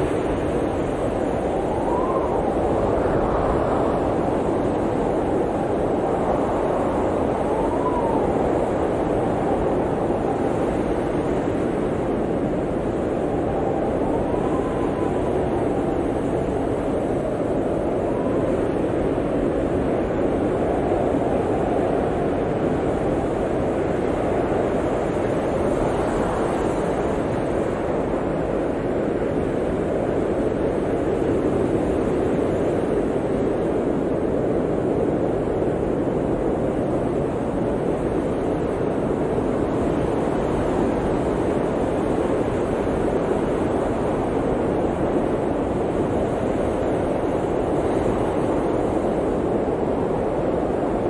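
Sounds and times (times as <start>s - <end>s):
blizzard wind rushing: 0.0s - 51.0s.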